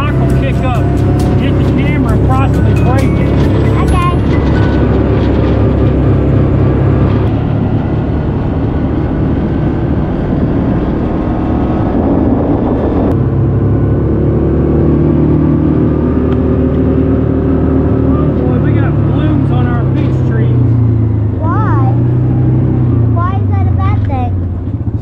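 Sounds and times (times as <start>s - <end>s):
utility vehicle engine running: 0.0s - 25.0s.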